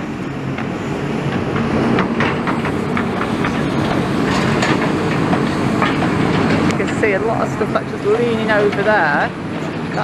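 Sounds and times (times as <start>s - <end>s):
heavy machinery rumble: 0.0s - 10.0s
rubble clanking and clattering: 0.4s - 10.0s.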